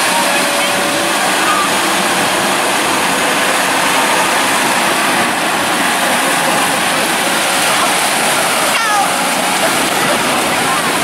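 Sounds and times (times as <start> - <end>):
surf rushing: 0.0 - 11.0
tractor engine running: 0.0 - 11.0
water churning around wheels: 0.0 - 11.0.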